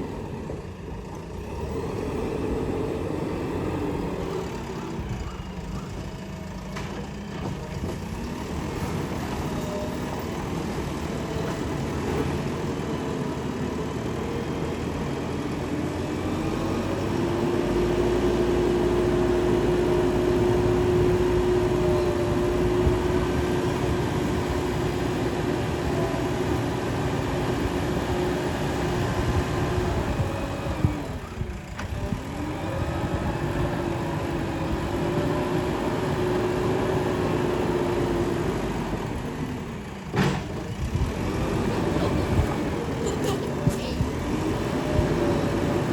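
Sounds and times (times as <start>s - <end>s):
diesel engine running under work: 0.0s - 45.9s.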